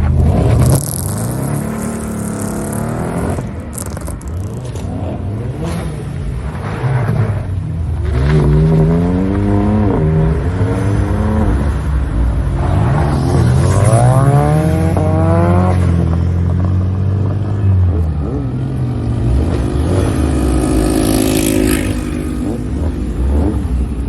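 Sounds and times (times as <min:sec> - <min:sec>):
car engines running low: 0:00.0 - 0:24.0
sports car accelerating hard: 0:00.0 - 0:24.0.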